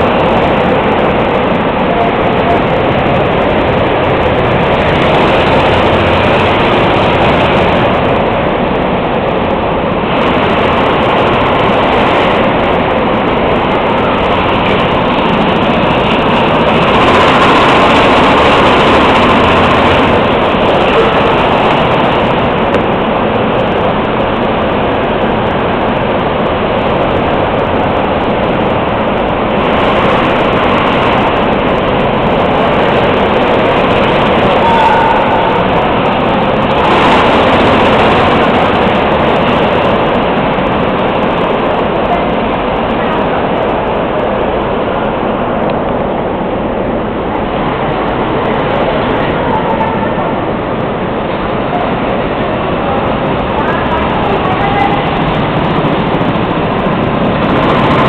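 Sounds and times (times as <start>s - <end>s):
go-karts running: 0.0s - 58.0s.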